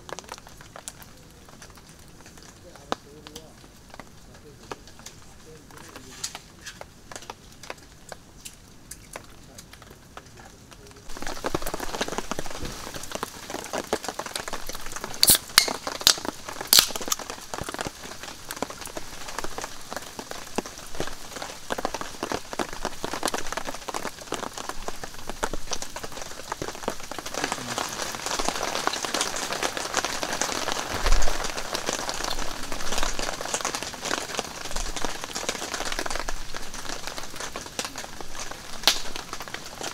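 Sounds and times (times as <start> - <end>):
campfire crackling: 0.0 - 39.9
rain pattering on canvas: 0.0 - 39.9.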